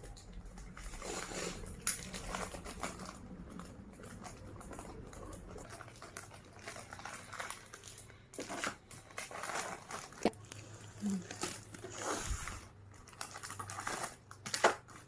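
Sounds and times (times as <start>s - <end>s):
snack packaging crinkling: 0.0s - 15.0s.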